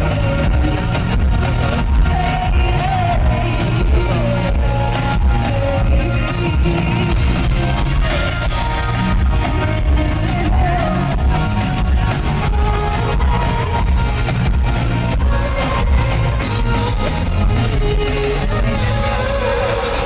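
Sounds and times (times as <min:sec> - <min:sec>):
bass and drums: 0:00.0 - 0:20.0
electric guitar: 0:00.0 - 0:20.0
live band music: 0:00.0 - 0:20.0.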